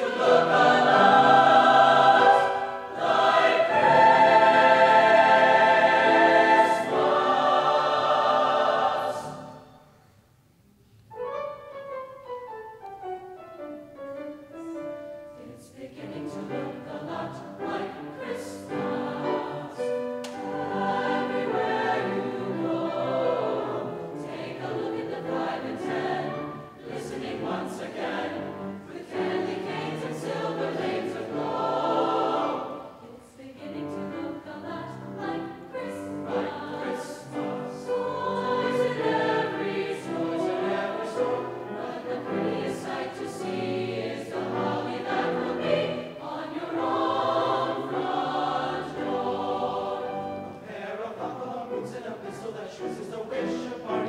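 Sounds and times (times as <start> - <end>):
mixed choir singing: 0.0 - 10.0, 15.3 - 54.0.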